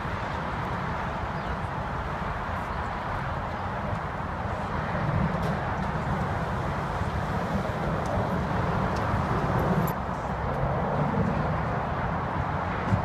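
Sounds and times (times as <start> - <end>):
distant jet aircraft flying past: 0.0 - 13.0
motorway traffic rumble: 0.0 - 13.0.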